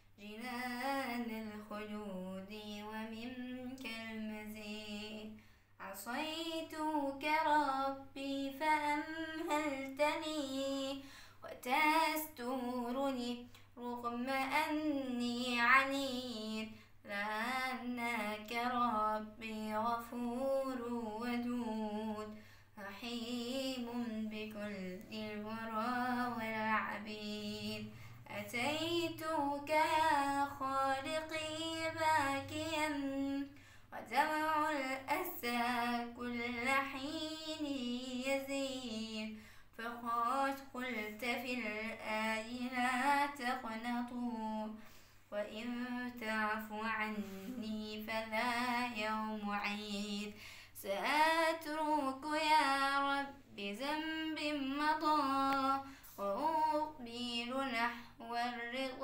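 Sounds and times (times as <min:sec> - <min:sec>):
girl singing unaccompanied: 0:00.0 - 0:59.0.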